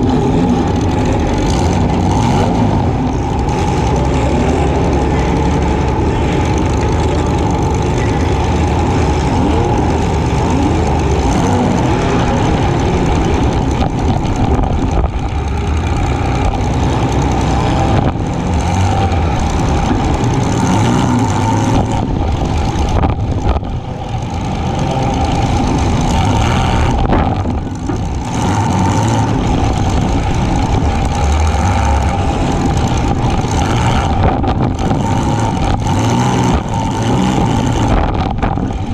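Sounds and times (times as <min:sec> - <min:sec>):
car engine running loud: 0:00.0 - 0:38.9.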